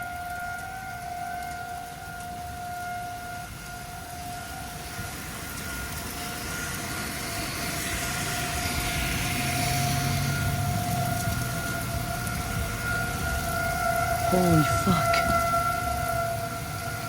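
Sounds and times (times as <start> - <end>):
warning siren steady pitch: 0.0 - 17.0.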